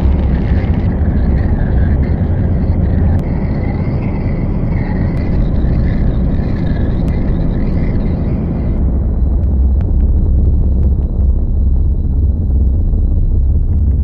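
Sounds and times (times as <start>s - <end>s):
low rumbling noise drone: 0.0s - 14.0s.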